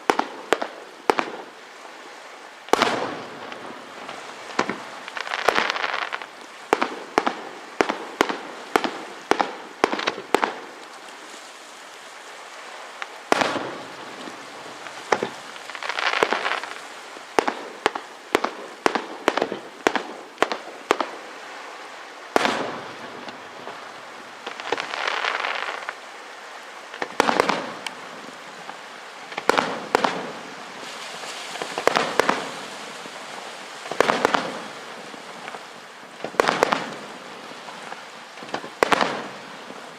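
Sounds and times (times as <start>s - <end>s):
crackling firework hiss: 0.0s - 39.9s.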